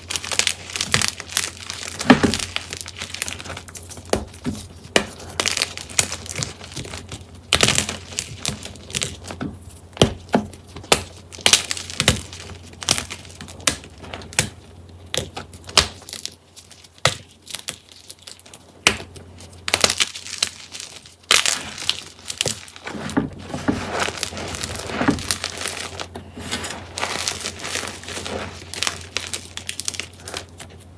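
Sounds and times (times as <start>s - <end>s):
chalk being crushed: 0.0s - 30.9s.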